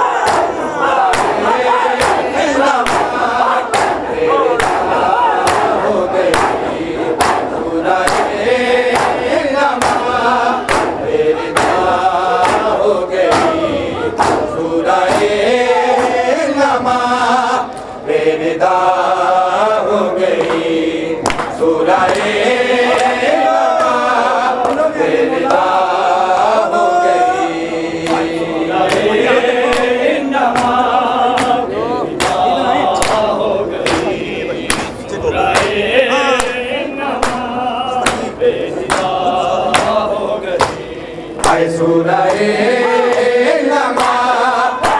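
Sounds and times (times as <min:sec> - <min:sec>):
men beating chests in unison: 0:00.0 - 0:17.9, 0:18.6 - 0:44.9
men chanting in chorus: 0:00.0 - 0:44.9.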